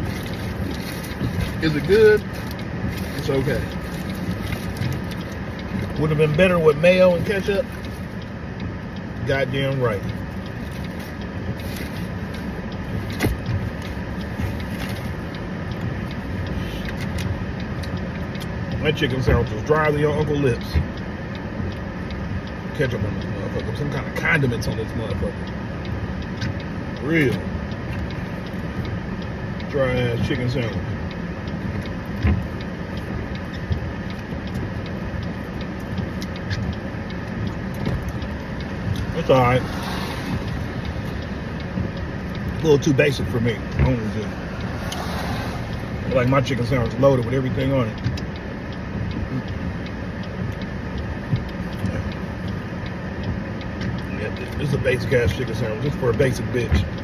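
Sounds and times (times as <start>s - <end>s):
vehicle running rumble: 0.0s - 57.0s.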